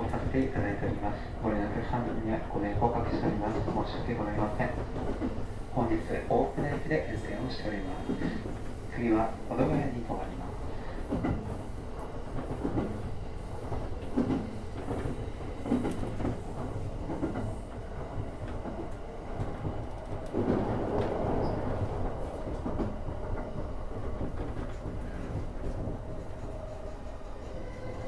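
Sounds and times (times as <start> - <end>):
electric train rumbling: 0.0 - 28.0.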